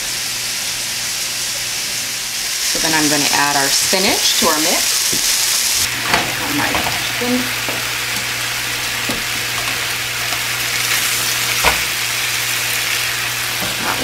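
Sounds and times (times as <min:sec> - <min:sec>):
chicken sizzling in frying pan: 0:00.0 - 0:14.0.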